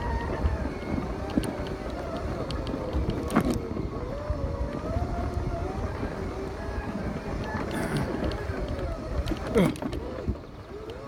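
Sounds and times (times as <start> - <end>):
electric motors whining: 0.0 - 11.0
wheels rumbling: 0.0 - 11.0.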